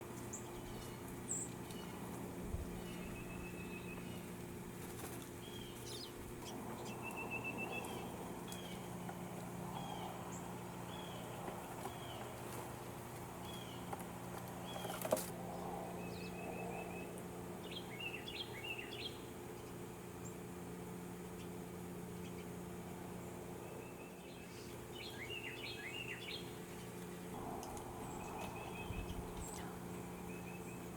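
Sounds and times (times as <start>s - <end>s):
birds chirping: 0.0s - 30.9s
steady low hum: 0.0s - 30.9s.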